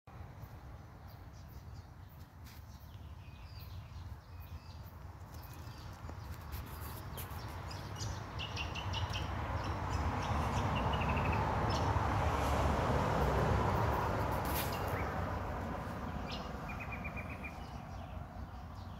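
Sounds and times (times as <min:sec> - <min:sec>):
small birds chirping: 0:00.4 - 0:12.0, 0:14.4 - 0:15.2, 0:15.8 - 0:18.9.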